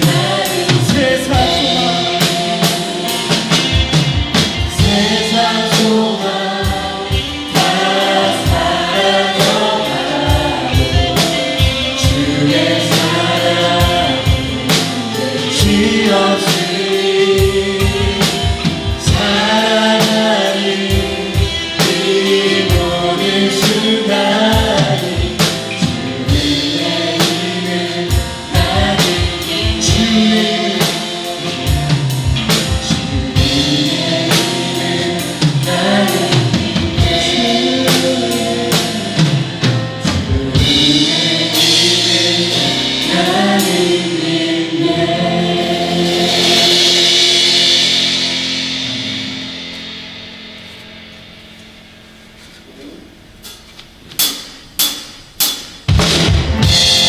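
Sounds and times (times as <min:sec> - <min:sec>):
group singing with band: 0:00.0 - 0:49.3, 0:56.2 - 0:57.0
drums keeping a beat: 0:00.0 - 0:57.0.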